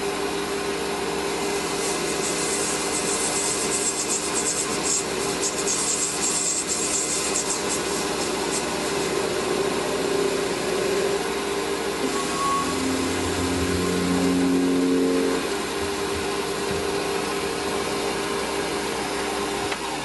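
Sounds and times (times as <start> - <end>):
metal lathe motor humming: 0.0 - 19.8.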